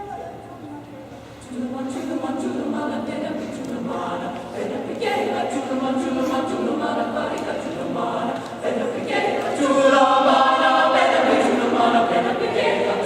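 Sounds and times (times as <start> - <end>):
choir singing: 1.4 - 13.0.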